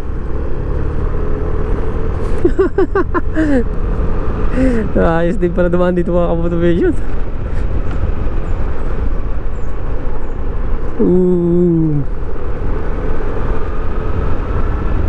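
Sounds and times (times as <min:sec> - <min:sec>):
road rumble: 0:00.0 - 0:15.0
wind buffeting: 0:01.3 - 0:15.0.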